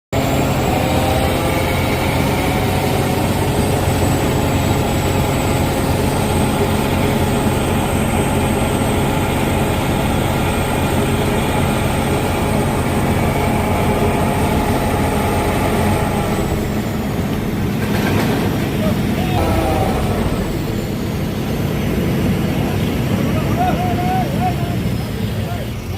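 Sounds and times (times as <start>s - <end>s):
diesel machinery running: 0.1s - 25.9s
high whine: 0.2s - 25.9s.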